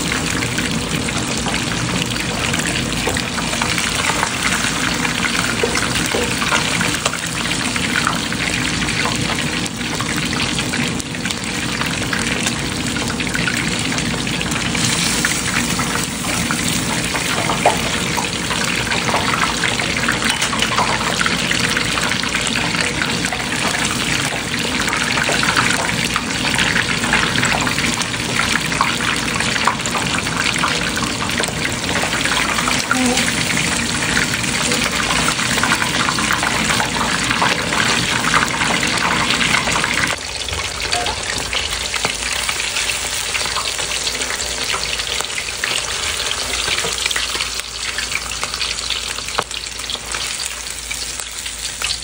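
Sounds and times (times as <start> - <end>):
hot oil sizzling and bubbling: 0.0 - 52.0.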